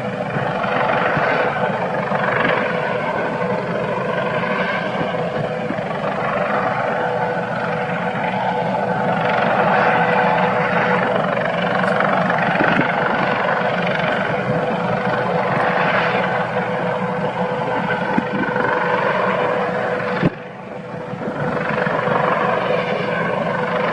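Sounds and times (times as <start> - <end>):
helicopter rotor and turbine drone: 0.0 - 23.9.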